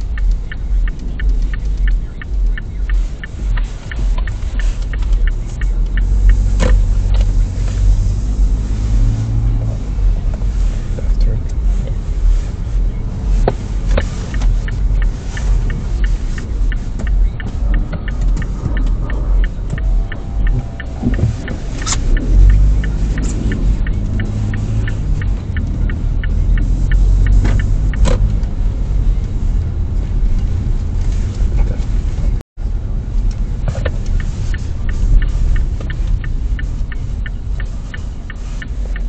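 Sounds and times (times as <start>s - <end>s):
car cabin road noise: 0.0s - 39.0s
turn signal clicking: 0.0s - 39.0s.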